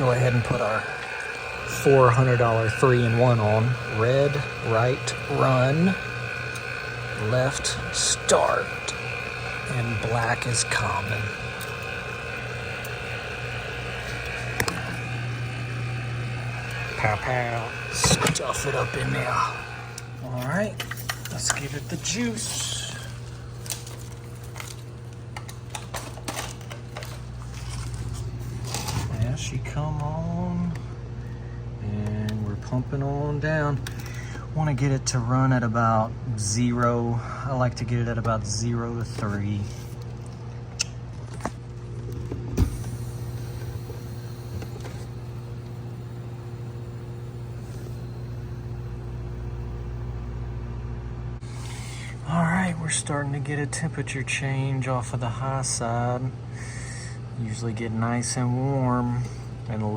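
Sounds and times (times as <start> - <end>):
refrigerator compressor humming: 0.0 - 59.9.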